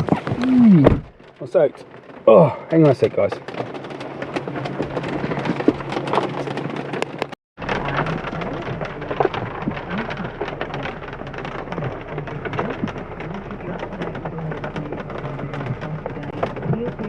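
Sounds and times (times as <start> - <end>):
heavy rain: 0.0 - 17.0
raindrops ticking close by: 0.0 - 17.0.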